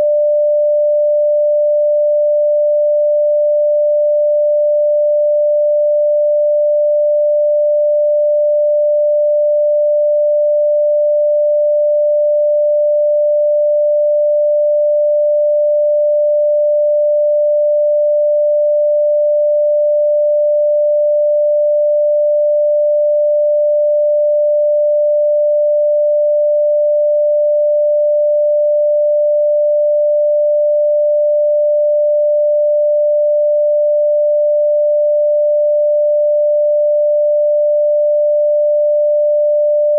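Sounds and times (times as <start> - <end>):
electronic sine tone: 0.0 - 39.9.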